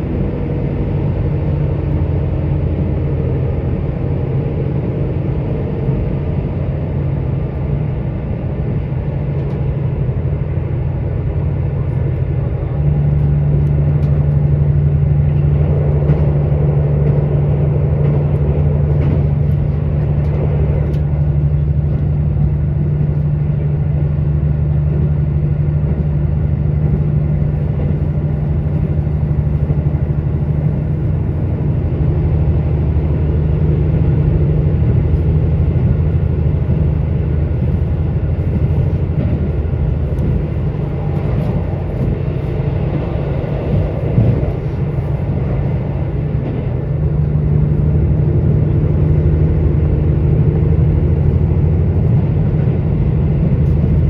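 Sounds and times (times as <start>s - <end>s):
diesel engine drone: 0.0s - 54.0s
wheels rumbling on rail: 0.0s - 54.0s.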